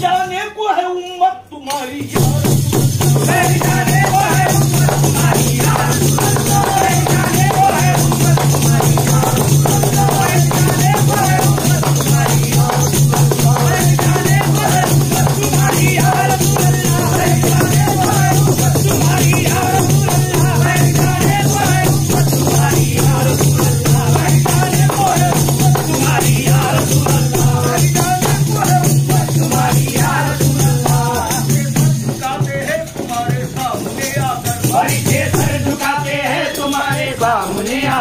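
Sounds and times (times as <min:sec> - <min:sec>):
devotional singing: 0:00.0 - 0:38.0
fast rattling percussion: 0:01.7 - 0:38.0.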